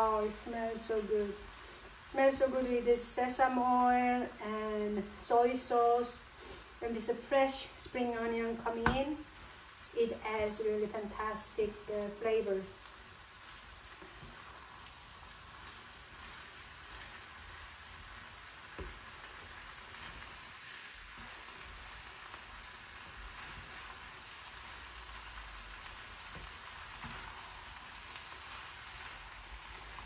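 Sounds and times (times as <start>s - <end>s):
egg frying: 0.0s - 30.0s
rice sizzling in frying pan: 0.0s - 30.0s.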